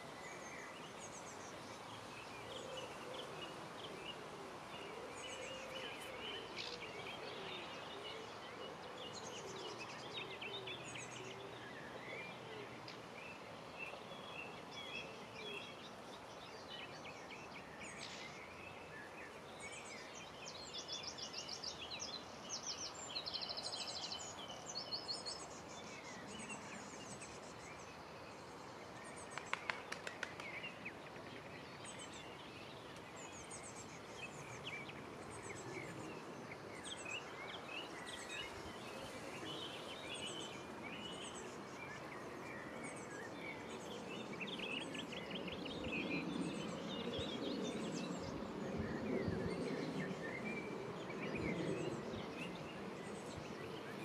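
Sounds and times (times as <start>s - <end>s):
birds calling and trilling: 0.0s - 54.0s
outdoor background hiss: 0.0s - 54.0s.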